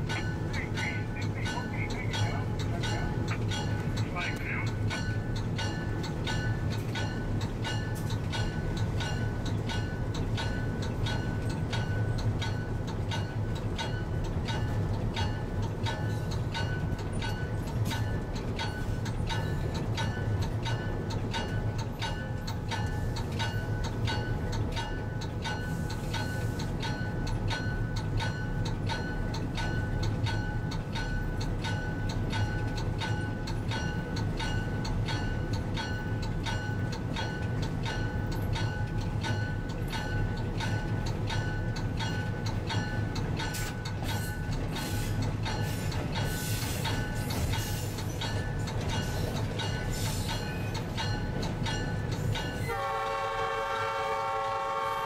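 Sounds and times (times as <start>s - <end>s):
diesel locomotive engine drone: 0.0s - 55.0s
locomotive bell ringing: 0.0s - 55.0s.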